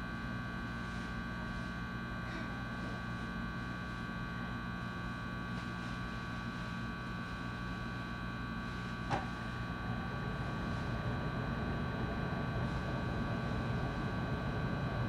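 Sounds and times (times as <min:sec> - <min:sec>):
high inverter whine: 0:00.0 - 0:15.0
train equipment and air conditioning hum: 0:00.0 - 0:15.0.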